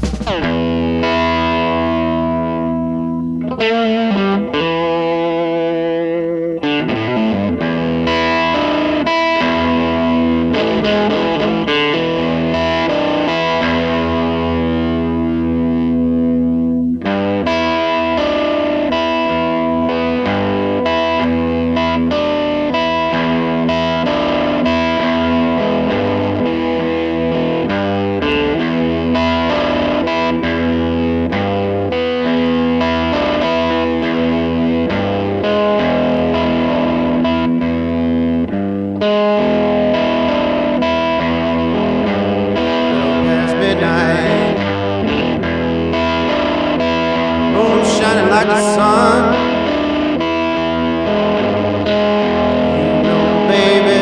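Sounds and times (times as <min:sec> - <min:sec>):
rock music with electric guitar: 0:00.0 - 0:54.0.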